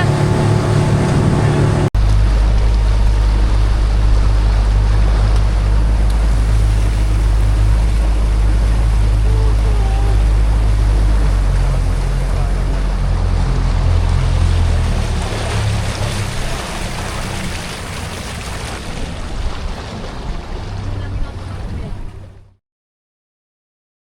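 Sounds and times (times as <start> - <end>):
speedboat engine rumbling: 0.0 - 22.6
water rushing: 0.0 - 22.6
wind: 0.0 - 22.6.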